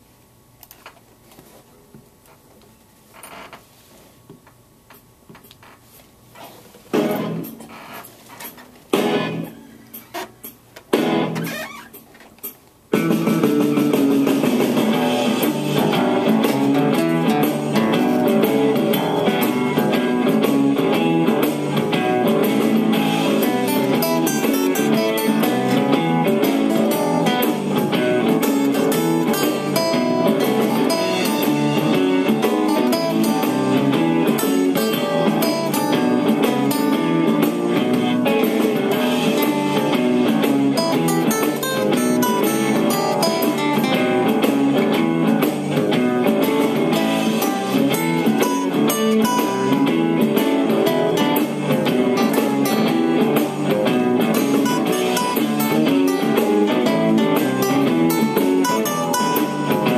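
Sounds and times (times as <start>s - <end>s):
acoustic guitar blues riffs: 6.9s - 7.8s, 8.9s - 10.2s, 10.9s - 11.9s, 12.9s - 59.9s.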